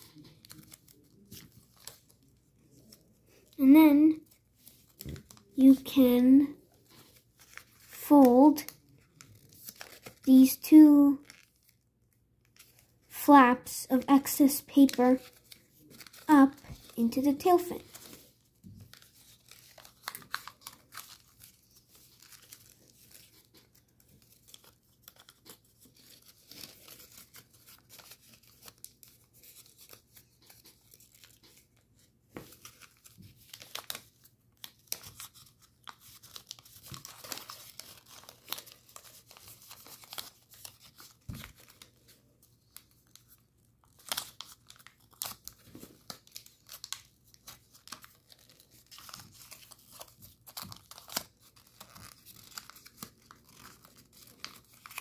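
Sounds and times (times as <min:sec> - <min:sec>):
paper crinkling and rustling: 0:00.0 - 0:13.1, 0:14.0 - 0:55.0.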